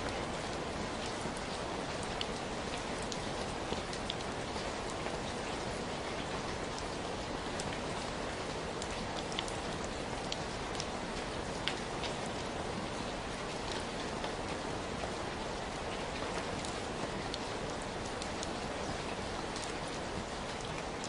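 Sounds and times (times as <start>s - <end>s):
raindrops ticking close by: 0.0s - 21.0s
steady rain hiss: 0.0s - 21.0s.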